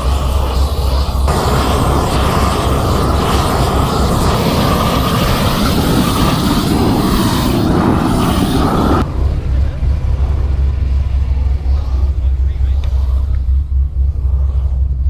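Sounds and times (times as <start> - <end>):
torch flame rushing: 0.0 - 14.7.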